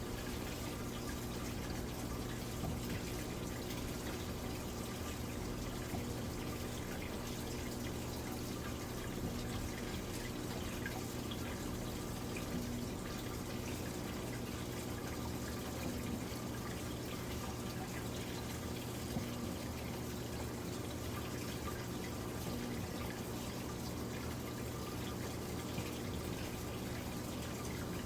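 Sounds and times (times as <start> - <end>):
low machine hum: 0.0 - 28.0
water drips: 0.0 - 28.0
water running in washing machine: 0.0 - 28.0.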